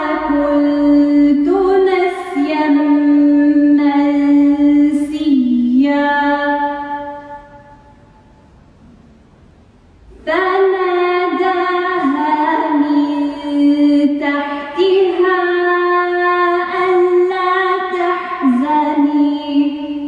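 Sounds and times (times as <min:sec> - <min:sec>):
woman chanting: 0:00.0 - 0:08.0, 0:10.2 - 0:20.0.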